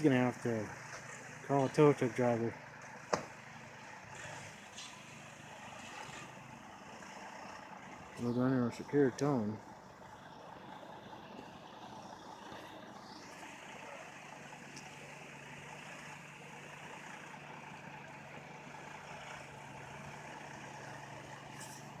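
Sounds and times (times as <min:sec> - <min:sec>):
distant vehicle engine humming: 0:00.0 - 0:22.0.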